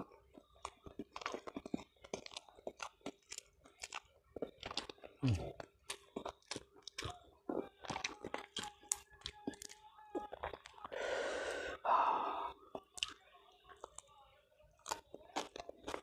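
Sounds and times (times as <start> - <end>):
wet chewing and lip-smacking: 0.0 - 11.0, 12.7 - 16.0.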